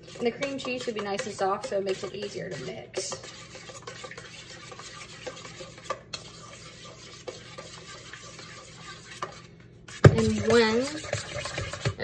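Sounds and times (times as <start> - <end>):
spoon scraping in metal bowl: 0.0 - 12.0.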